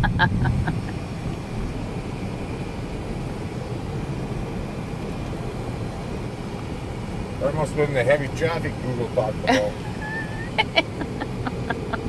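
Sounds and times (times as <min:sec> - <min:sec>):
vehicle cabin road rumble: 0:00.0 - 0:12.0.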